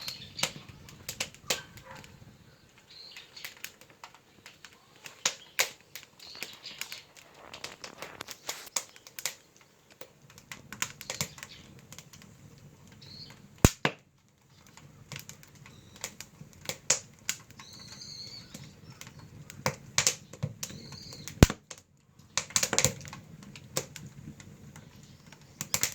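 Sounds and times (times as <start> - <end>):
firewood crackling and popping: 0.0 - 25.9.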